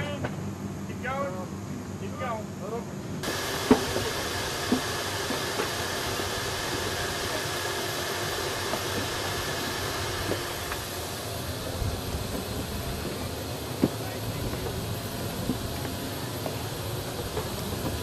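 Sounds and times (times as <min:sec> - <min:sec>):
jet engine whine and hiss: 0:00.0 - 0:18.0.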